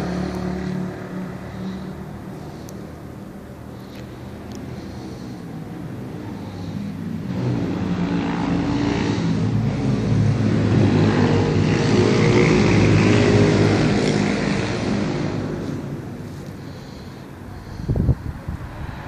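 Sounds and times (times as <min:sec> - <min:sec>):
passing engine: 0:00.0 - 0:19.0.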